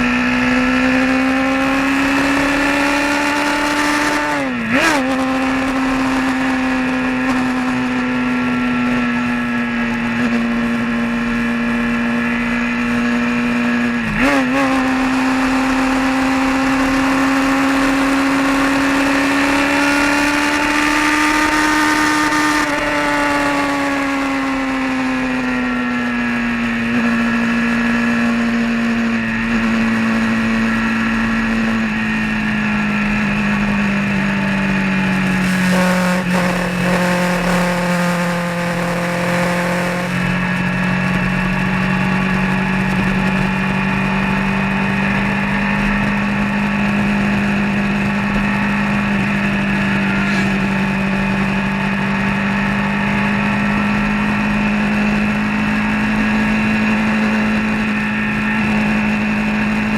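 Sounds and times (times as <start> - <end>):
vehicle engine cruising: 0.0 - 59.9
wind and road noise: 0.0 - 59.9.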